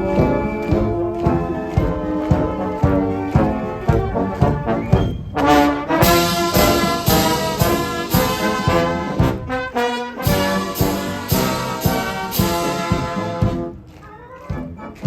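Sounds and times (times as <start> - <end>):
steady drum beat: 0.0 - 13.9
marching band brass and bugles: 0.0 - 15.0.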